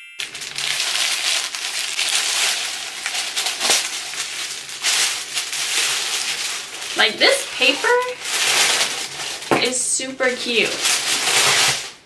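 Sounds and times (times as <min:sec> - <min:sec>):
wrapping paper crinkling: 0:00.2 - 0:12.0.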